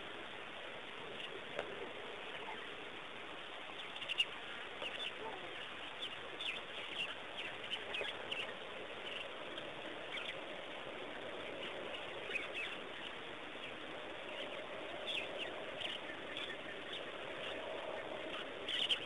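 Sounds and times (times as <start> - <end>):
outdoor ambience hiss: 0.0 - 19.0
wild birds calling: 0.0 - 19.0.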